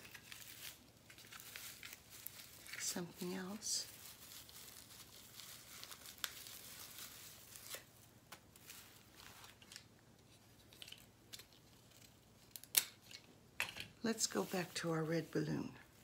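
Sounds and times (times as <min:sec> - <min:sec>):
rustling and crinkling materials: 0:00.0 - 0:16.0.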